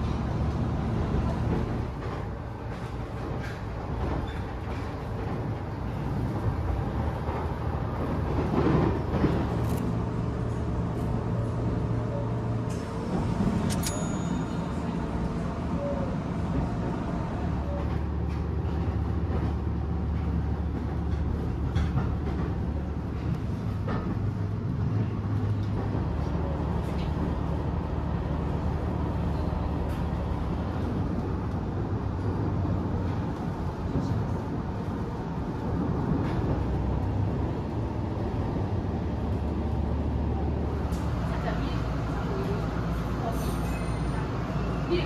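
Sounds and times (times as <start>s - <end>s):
diesel railcar rumbling: 0.0s - 45.0s.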